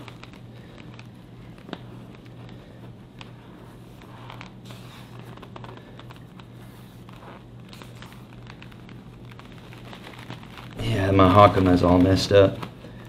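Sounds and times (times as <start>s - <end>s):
laces rustling and scratching: 0.0s - 13.0s
steady low hum: 0.0s - 13.0s.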